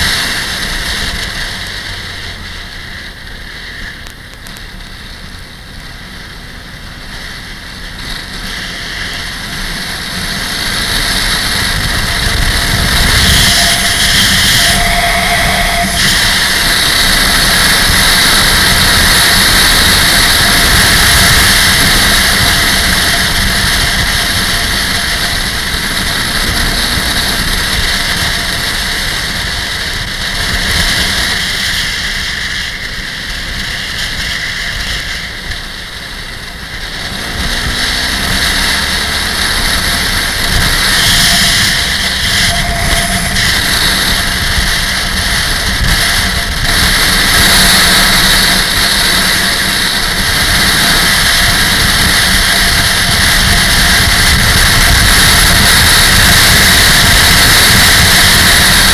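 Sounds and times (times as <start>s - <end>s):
motorcycle engine: 0.0s - 58.9s
wind rush on microphone: 5.4s - 58.9s.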